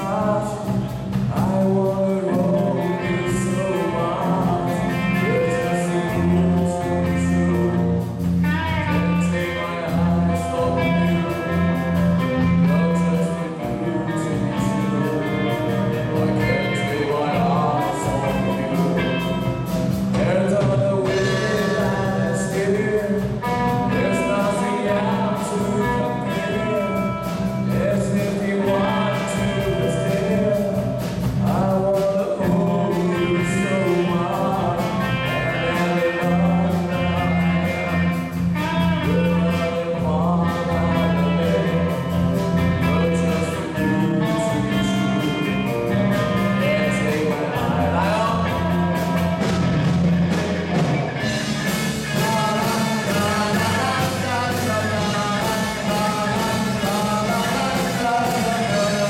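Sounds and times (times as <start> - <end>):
drum kit: 0.0 - 59.0
electric guitars: 0.0 - 59.0
male singer: 0.0 - 59.0.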